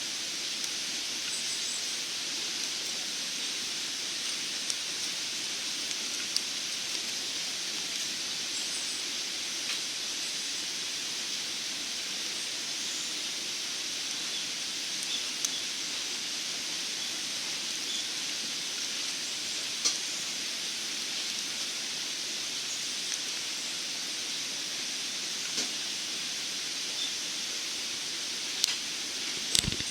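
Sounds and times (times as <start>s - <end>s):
wood fire hissing and crackling: 0.0s - 29.9s.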